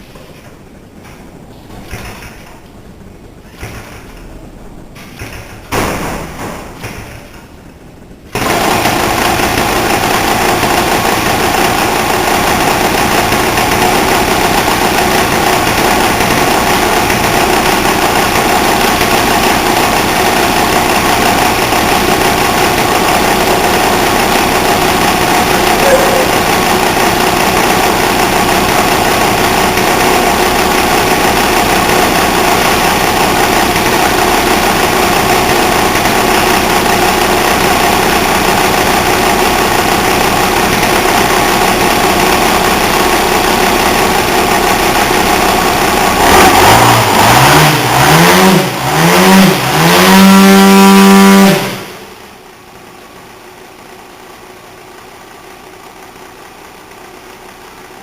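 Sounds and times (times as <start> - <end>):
engine idling and revving: 8.3 - 58.0.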